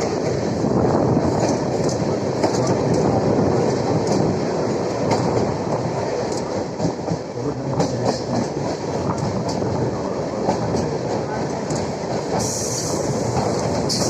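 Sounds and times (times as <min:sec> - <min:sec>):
electric train rumbling on track: 0:00.0 - 0:14.0.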